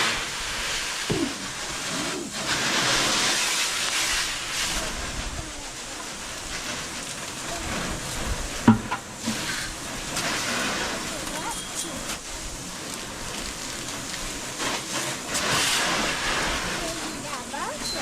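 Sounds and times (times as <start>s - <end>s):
water spraying from hose: 0.0s - 18.0s.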